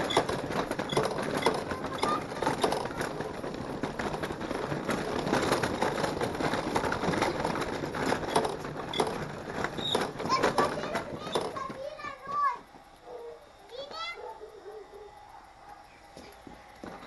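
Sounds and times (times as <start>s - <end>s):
small wheels rolling over paving: 0.0s - 14.6s, 15.5s - 17.0s.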